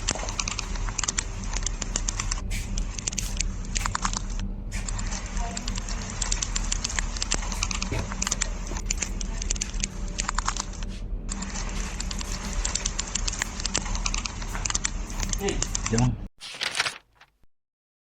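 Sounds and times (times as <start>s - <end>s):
low hum: 0.0s - 16.3s.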